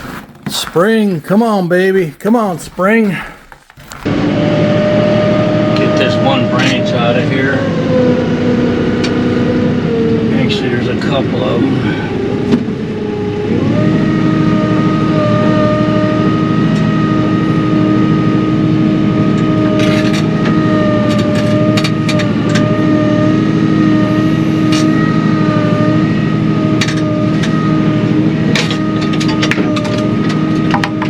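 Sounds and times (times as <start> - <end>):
engine running steadily: 4.0 - 31.0.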